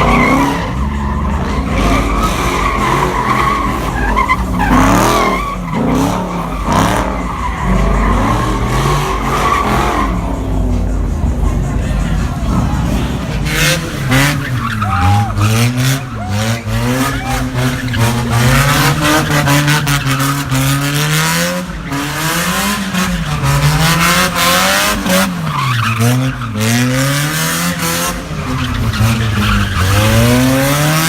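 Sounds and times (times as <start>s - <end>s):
car engine revving: 0.0s - 31.0s
tires squealing: 0.0s - 31.0s.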